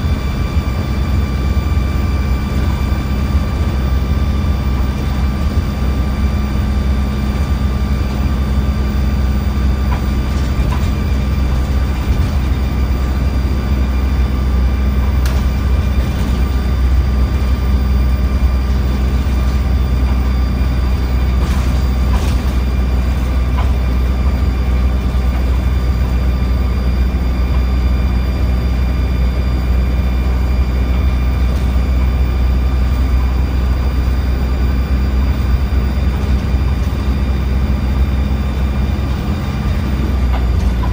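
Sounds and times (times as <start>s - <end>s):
bus engine drone: 0.0s - 40.9s
road noise: 0.0s - 40.9s.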